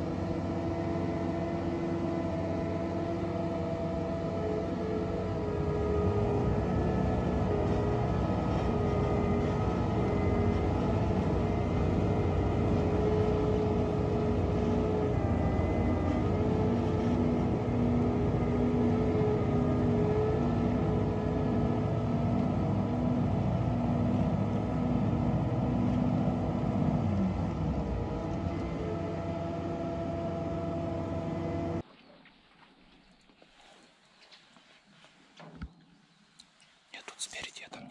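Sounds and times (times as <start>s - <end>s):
diesel engine drone: 0.0s - 31.8s
hydraulic whine: 0.0s - 31.8s.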